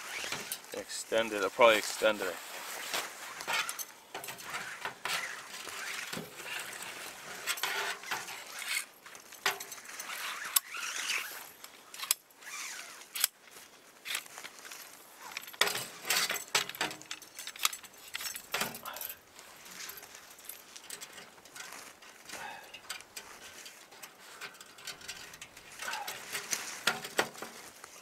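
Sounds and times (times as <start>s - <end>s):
scraping and rustling: 0.0s - 28.0s.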